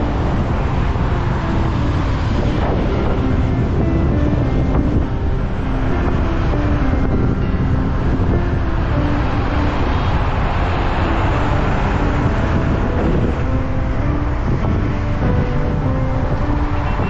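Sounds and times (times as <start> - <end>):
faint background music: 0.0 - 17.0
wind rush over microphone: 0.0 - 17.0.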